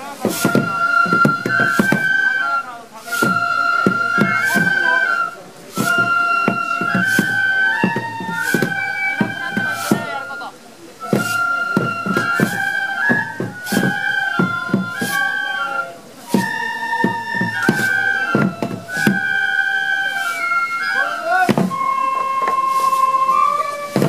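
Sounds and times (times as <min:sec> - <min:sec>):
transverse flute melody: 0:00.0 - 0:24.0
waist drum beats: 0:00.0 - 0:24.0.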